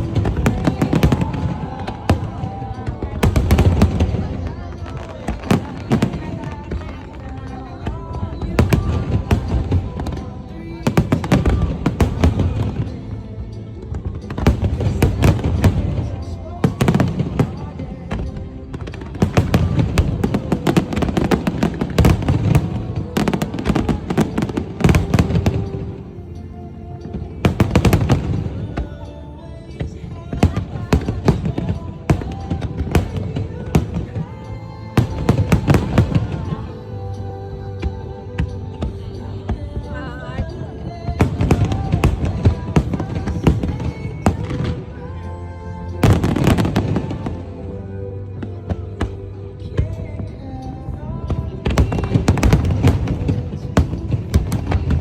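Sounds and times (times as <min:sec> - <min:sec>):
fireworks bangs and crackles: 0:00.0 - 0:37.2, 0:37.8 - 0:55.0
music playing: 0:00.0 - 0:55.0.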